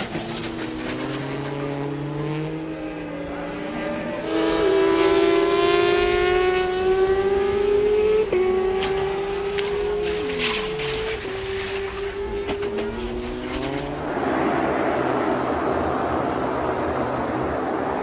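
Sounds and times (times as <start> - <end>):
racing motorcycle engine revving: 0.0 - 16.8.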